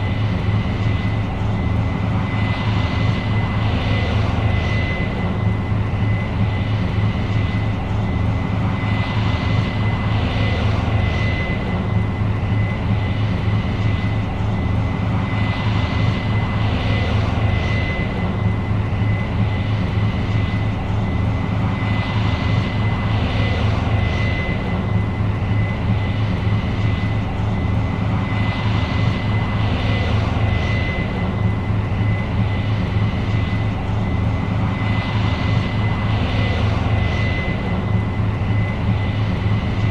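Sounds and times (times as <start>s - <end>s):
combine engine drone: 0.0s - 39.9s
constant high whine: 0.0s - 39.9s.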